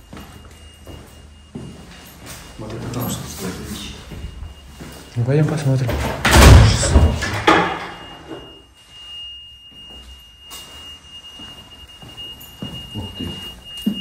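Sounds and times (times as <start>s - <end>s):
fire alarm high-pitched squeal: 0.0s - 14.0s.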